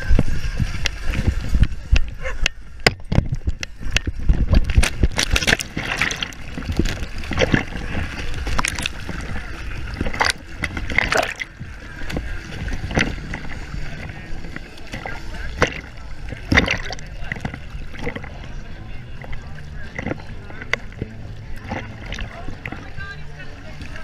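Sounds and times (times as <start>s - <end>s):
water splashing: 0.0s - 24.0s.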